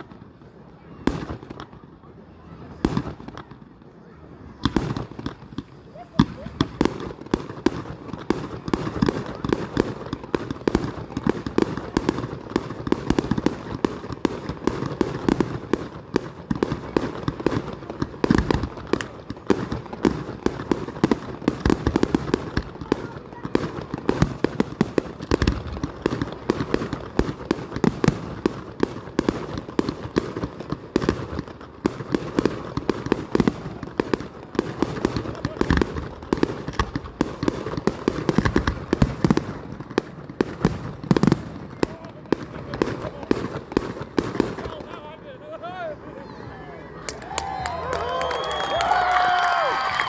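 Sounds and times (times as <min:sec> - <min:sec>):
deep fireworks booms: 0:00.0 - 0:45.0
fireworks bangs and crackles: 0:00.0 - 0:46.0, 0:47.0 - 0:50.0.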